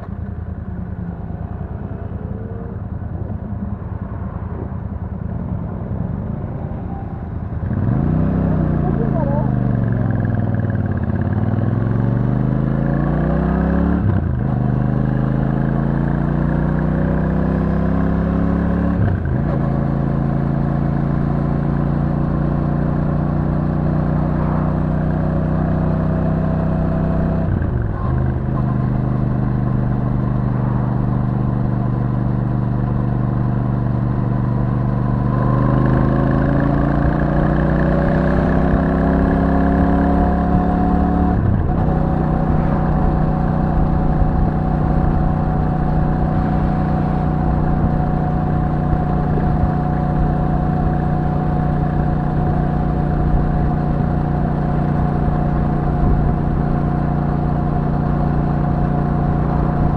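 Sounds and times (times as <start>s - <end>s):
motorcycle engine revving: 7.5s - 59.9s.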